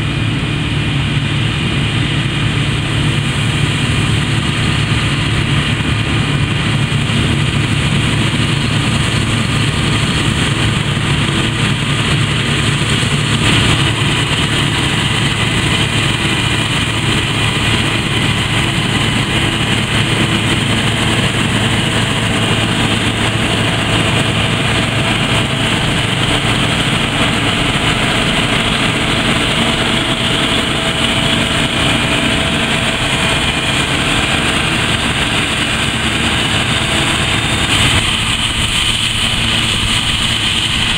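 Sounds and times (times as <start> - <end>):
diesel engine hum: 0.0 - 40.9
threshing machinery whirring: 3.0 - 40.9.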